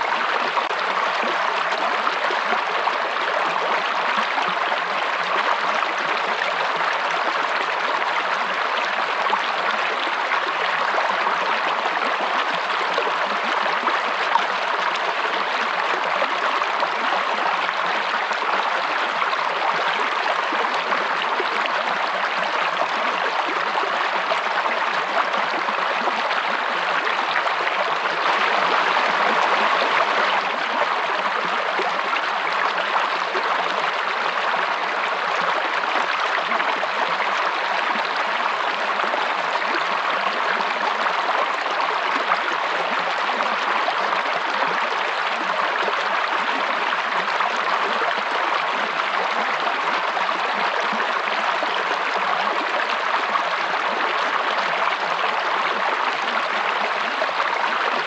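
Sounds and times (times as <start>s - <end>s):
stream of running water: 0.0s - 58.0s.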